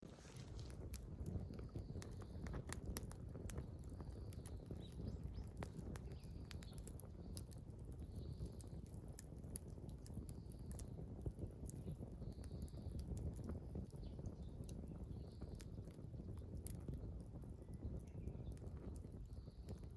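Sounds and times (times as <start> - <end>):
birds chirping faintly: 0.0 - 19.9
campfire crackling and popping: 0.0 - 19.9.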